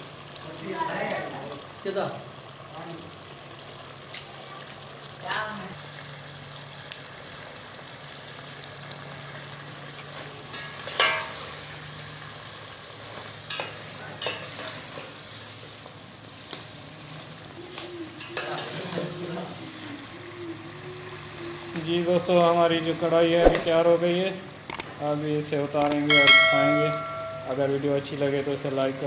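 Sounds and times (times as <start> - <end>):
curry simmering and sizzling: 0.0 - 29.0.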